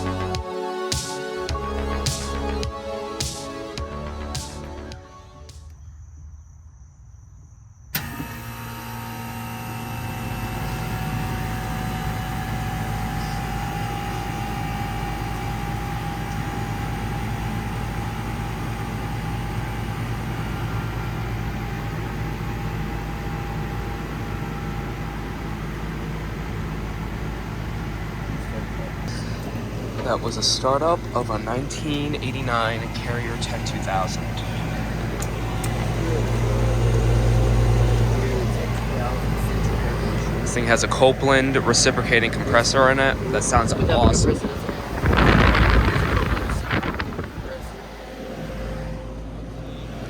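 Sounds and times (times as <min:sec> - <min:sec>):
air conditioner unit starting: 0:00.0 - 0:05.6, 0:08.0 - 0:50.0
compressor and fan humming: 0:00.0 - 0:05.8, 0:08.0 - 0:50.0.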